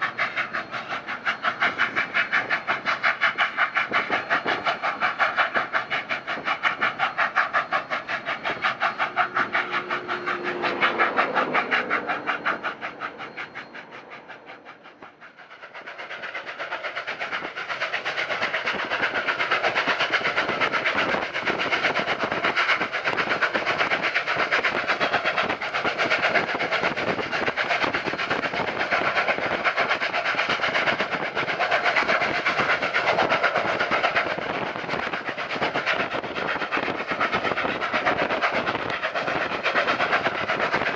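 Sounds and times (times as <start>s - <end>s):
steam locomotive exhaust beats: 0.0s - 40.9s
train clatter: 0.0s - 40.9s.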